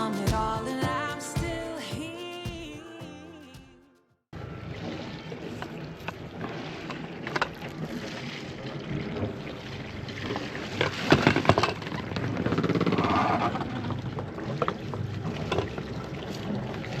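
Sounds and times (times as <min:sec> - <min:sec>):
water noise: 0:00.0 - 0:03.8, 0:04.4 - 0:17.0.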